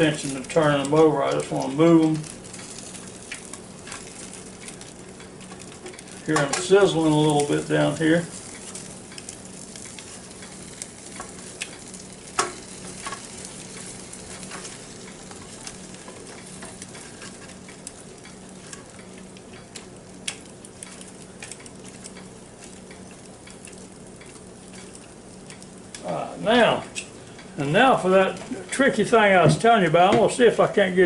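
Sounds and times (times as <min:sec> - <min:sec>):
chicken wings sizzling: 0:00.0 - 0:31.0
tongs clicking against basket: 0:00.4 - 0:07.7, 0:08.4 - 0:26.1.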